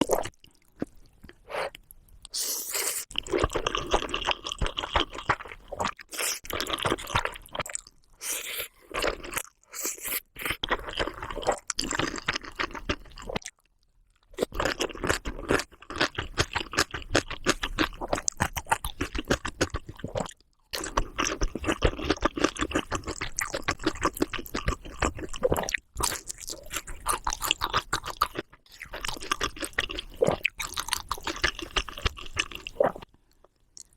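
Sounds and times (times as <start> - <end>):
crunchy chewing of food: 3.1 - 33.9.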